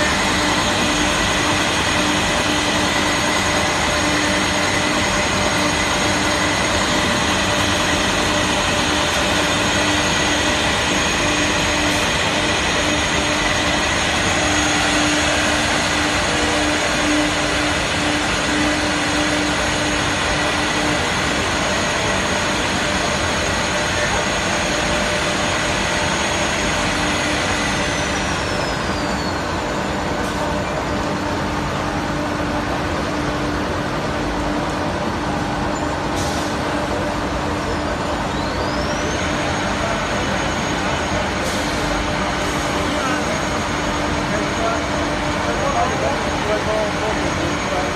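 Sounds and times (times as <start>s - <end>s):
high-pitched spindle whine: 0.0s - 31.4s, 37.2s - 47.9s
machine running loudly: 0.0s - 47.9s.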